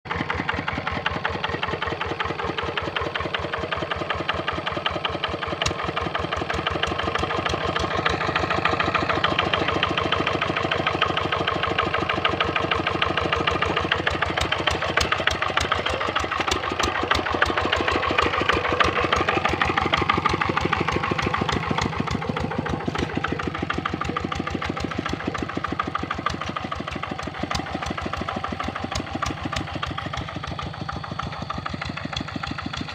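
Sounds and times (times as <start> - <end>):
diesel engine chugging: 0.1 - 32.9.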